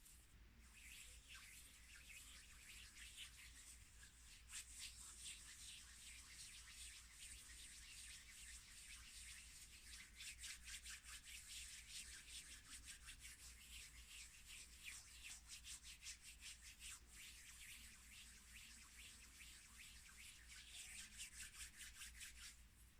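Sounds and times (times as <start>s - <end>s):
hands rubbing together: 0.0s - 22.6s.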